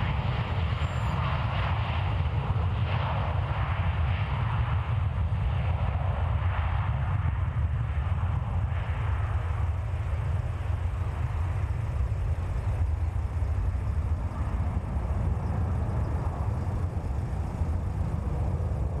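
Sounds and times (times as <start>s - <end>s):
jet airliner taking off: 0.0s - 19.0s.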